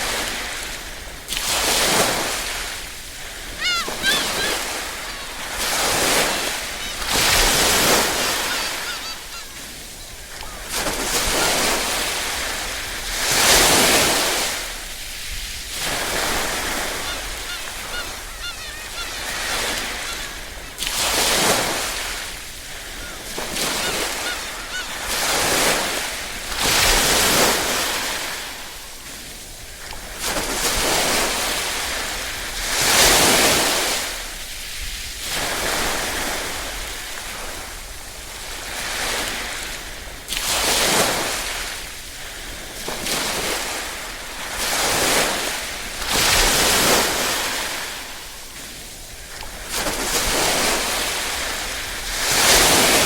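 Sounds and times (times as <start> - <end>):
small waves washing onto shore: 0.0 - 53.0.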